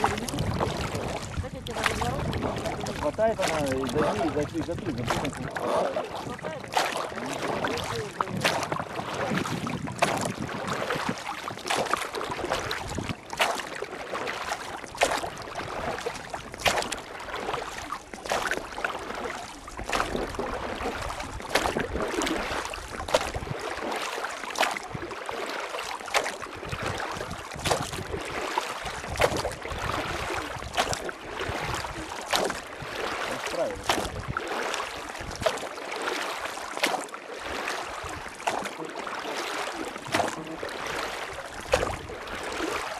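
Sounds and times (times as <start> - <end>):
rushing river water: 0.0 - 42.9
sharp splashes: 0.0 - 42.9.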